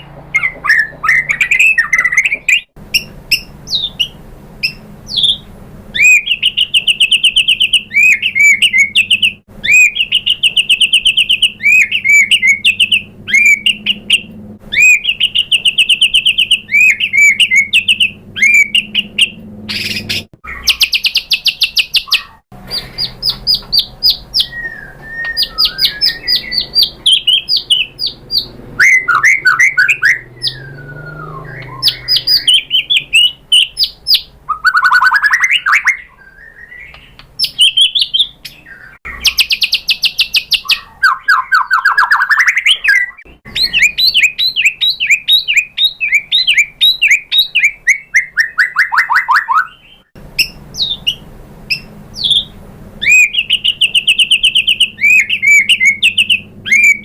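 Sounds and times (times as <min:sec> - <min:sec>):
bird singing trills and whistles: 0:00.0 - 0:57.0.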